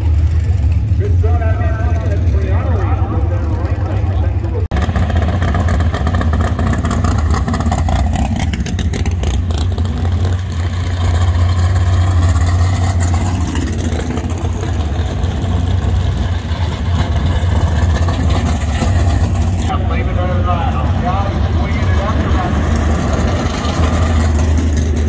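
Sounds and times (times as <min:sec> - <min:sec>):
drag car engines rumbling: 0:00.0 - 0:25.0.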